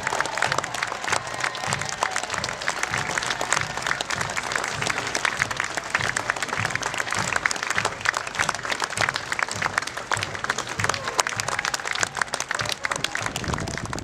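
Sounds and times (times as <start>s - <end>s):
crowd clapping: 0.0s - 14.0s
steady low drum beat: 0.0s - 14.0s.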